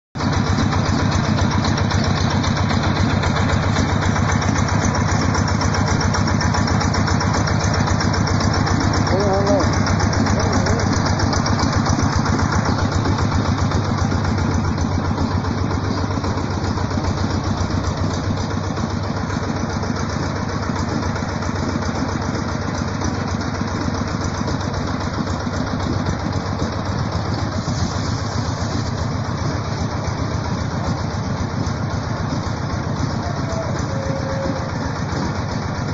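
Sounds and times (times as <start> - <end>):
aerator engine running: 0.2 - 35.9.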